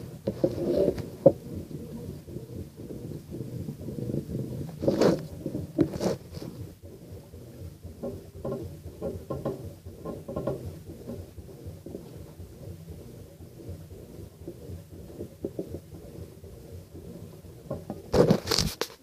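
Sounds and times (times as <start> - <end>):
washing machine water sloshing: 0.0 - 18.6.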